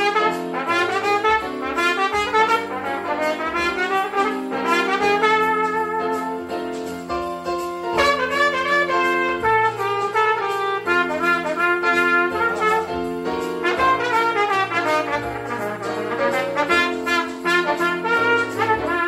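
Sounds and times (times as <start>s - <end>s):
electronic keyboard: 0.0s - 19.0s
trumpet playing jazz melody: 0.0s - 19.0s.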